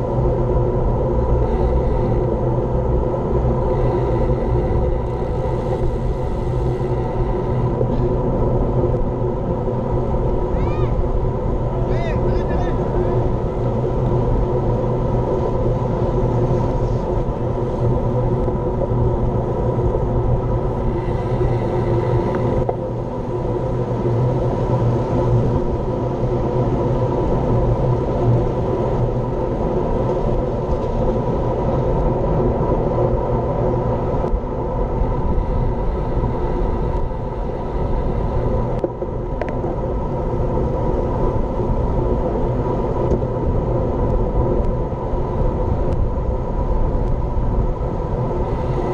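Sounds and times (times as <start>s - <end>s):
bike road rumble: 0.0s - 48.9s
wind rush on microphone: 0.0s - 48.9s.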